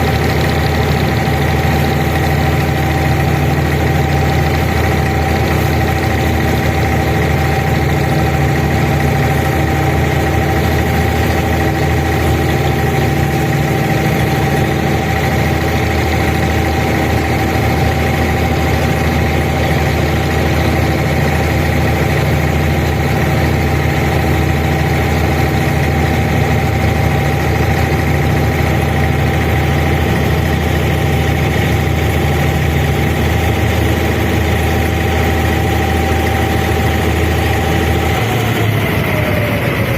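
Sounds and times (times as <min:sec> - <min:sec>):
diesel boat engine running: 0:00.0 - 0:39.9
mid-pitched whine: 0:00.0 - 0:39.9.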